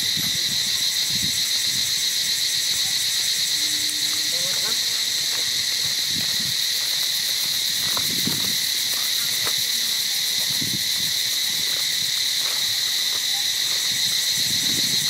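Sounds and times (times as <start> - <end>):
forest insect chorus drone: 0.0 - 15.0.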